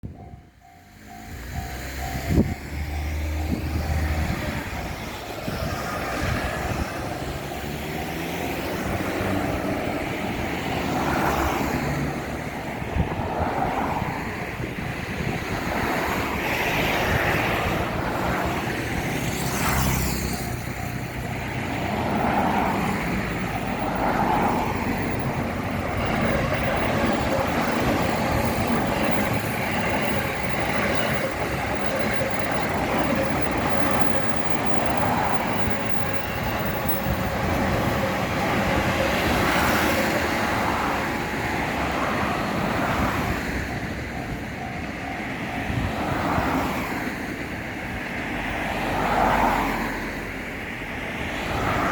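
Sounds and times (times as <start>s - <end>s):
level crossing warning bell: 0.0s - 51.6s
train rumble and wheel noise: 0.0s - 51.9s.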